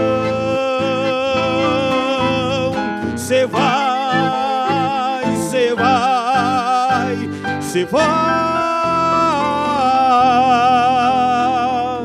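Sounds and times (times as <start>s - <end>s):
accordion: 0.0s - 12.0s
man singing: 0.0s - 12.0s
nylon-string guitar: 0.0s - 12.0s.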